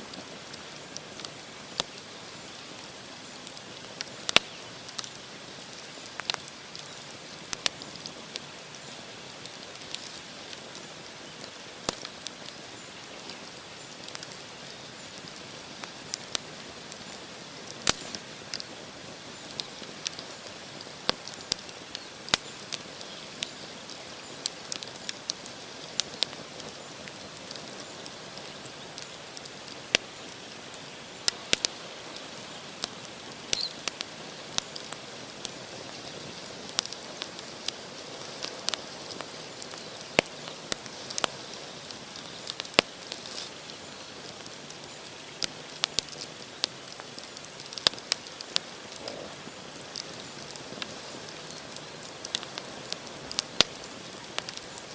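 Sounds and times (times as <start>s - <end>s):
campfire flames hissing: 0.0s - 54.9s
crackles and pops of burning logs: 0.0s - 54.9s.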